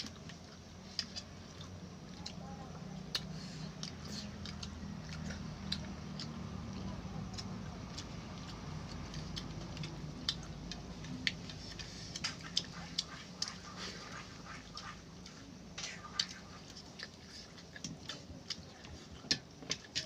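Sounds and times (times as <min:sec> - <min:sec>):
chewing: 0:00.0 - 0:20.0
low steady hum: 0:00.0 - 0:20.0.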